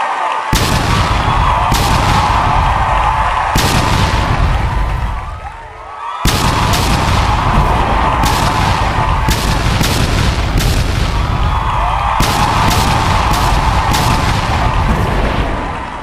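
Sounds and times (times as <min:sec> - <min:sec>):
fireworks bangs: 0:00.5 - 0:16.0
fireworks booming and crackle: 0:00.5 - 0:16.0.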